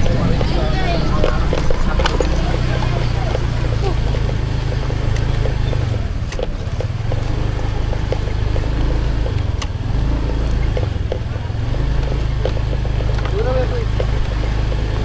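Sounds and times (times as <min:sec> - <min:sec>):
sharp clicks: 0:00.0 - 0:15.0
vehicle rumble: 0:00.0 - 0:15.0.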